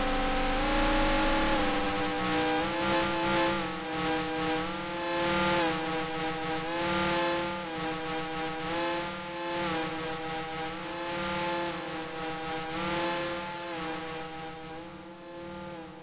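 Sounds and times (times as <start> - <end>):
buzzy synthesizer drone: 0.0 - 15.4.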